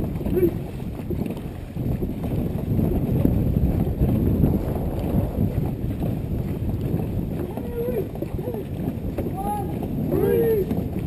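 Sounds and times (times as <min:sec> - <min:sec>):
water rushing past boat: 0:00.0 - 0:11.0
wind noise on microphone: 0:00.0 - 0:11.0.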